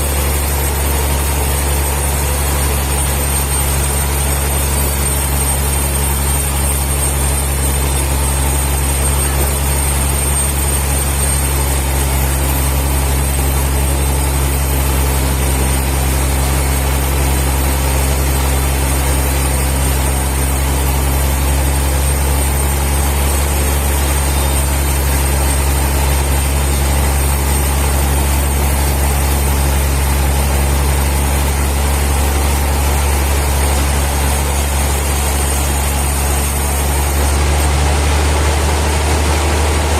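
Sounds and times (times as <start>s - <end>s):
sawmill motor drone: 0.0s - 39.9s.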